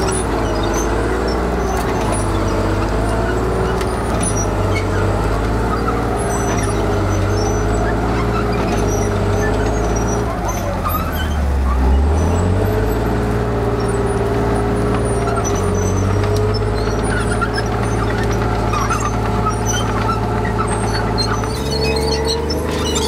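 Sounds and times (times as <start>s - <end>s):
tank engine running loud: 0.0s - 23.0s.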